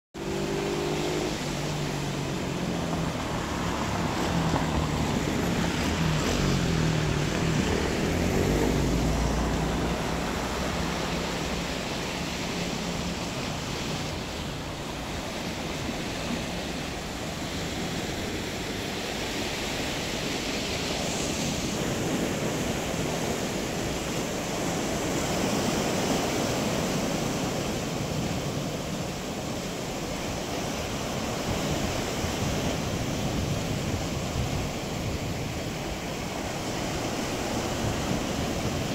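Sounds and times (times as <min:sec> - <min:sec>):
low engine hum: 0:00.2 - 0:38.9
sea waves washing onto shore: 0:00.2 - 0:38.9.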